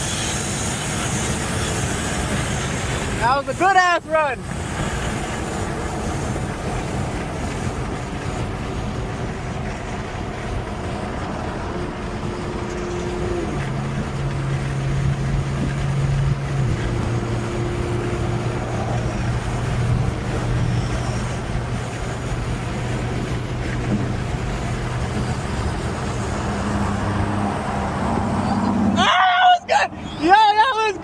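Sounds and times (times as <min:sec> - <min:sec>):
car engine hum: 0:00.0 - 0:31.0
road and wind noise: 0:00.0 - 0:31.0.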